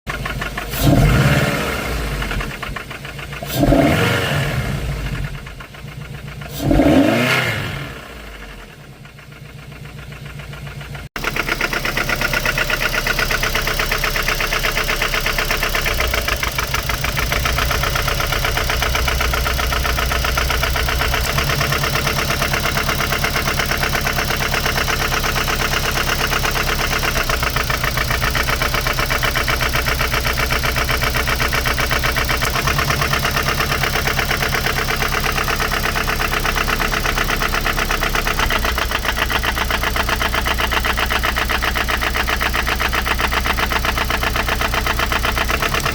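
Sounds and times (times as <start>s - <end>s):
car engine knocking: 0.1s - 1.2s, 2.0s - 4.0s, 5.1s - 7.0s, 8.7s - 45.9s.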